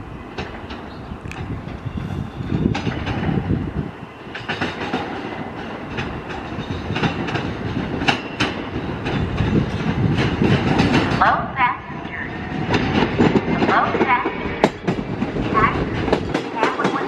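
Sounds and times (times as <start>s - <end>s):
train rumbling on track: 0.0s - 17.0s
wheels clicking over rail joints: 0.0s - 17.0s.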